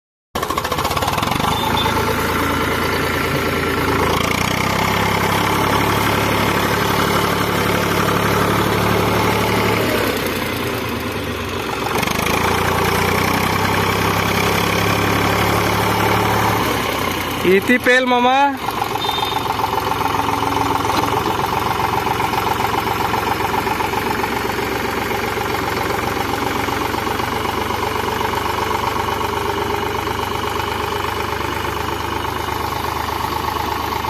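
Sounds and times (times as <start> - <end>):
tractor diesel engine running: 0.4 - 34.0.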